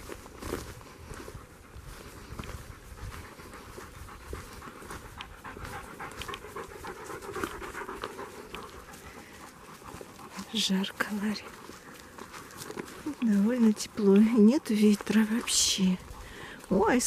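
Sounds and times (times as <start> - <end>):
dog panting: 0.7 - 17.0.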